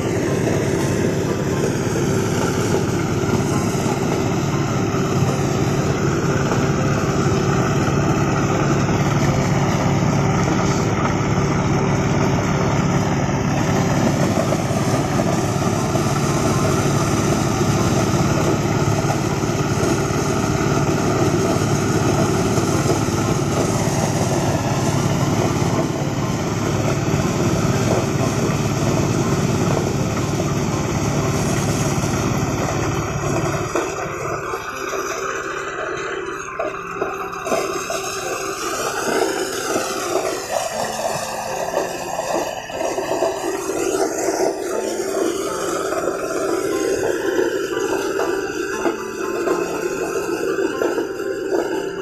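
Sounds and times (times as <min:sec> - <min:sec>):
corn sheller engine droning: 0:00.0 - 0:52.0.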